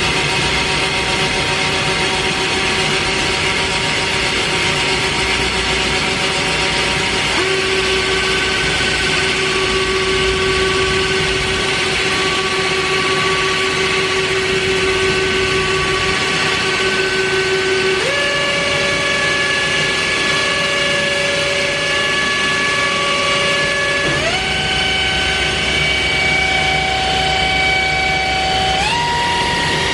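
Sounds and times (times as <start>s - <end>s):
machine spindle whine: 0.0s - 29.9s.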